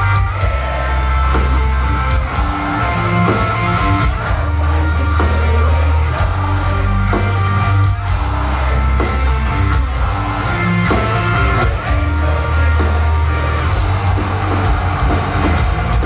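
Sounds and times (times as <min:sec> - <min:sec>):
metal band playing live: 0:00.0 - 0:16.0.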